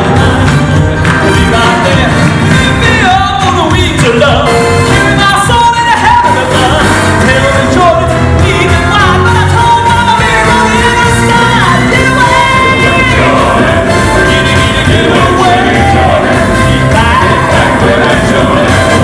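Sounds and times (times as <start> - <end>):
live band with bass: 0.0 - 19.0
male vocal quartet singing: 0.0 - 19.0.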